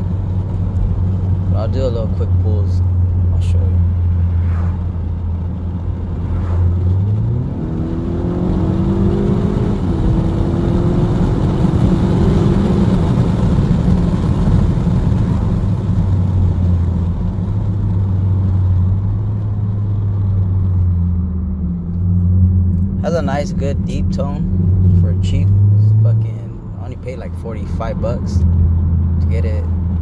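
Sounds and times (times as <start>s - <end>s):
car exhaust accelerating hard: 0.0s - 30.0s.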